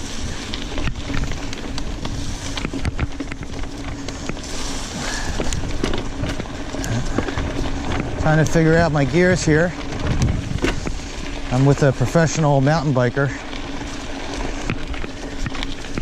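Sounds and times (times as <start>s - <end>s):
bike clicks and rattles: 0.0s - 16.0s
bike rumbling over trail: 0.0s - 16.0s.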